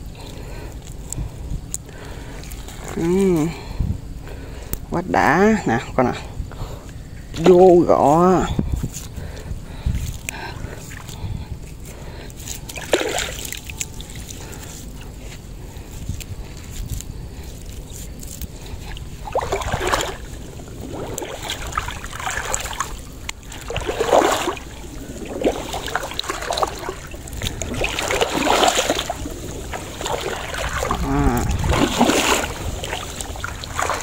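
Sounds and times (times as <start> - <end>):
water splashing around wading legs: 0.0 - 3.5, 7.3 - 34.0.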